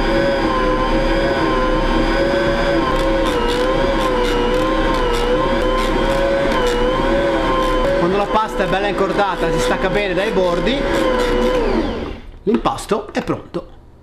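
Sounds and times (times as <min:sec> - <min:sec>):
food processor motor whining: 0:00.0 - 0:12.4.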